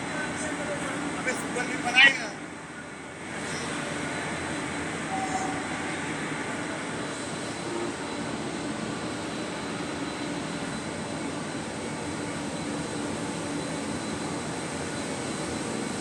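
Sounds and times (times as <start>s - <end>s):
industrial machinery roar: 0.0s - 16.0s
thin high whine: 0.0s - 16.0s.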